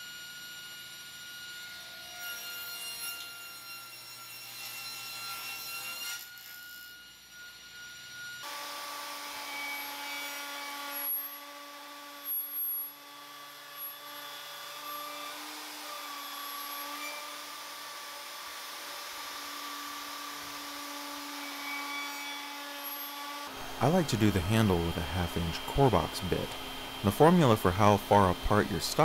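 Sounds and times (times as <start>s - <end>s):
router cutting wood: 0.0s - 29.0s.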